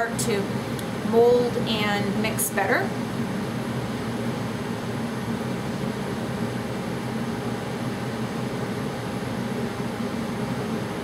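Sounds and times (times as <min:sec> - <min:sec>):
room heater running: 0:00.0 - 0:11.0.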